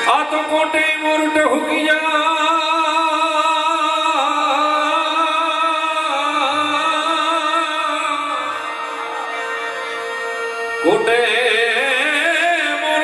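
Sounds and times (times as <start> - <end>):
harmonium: 0.0 - 13.0.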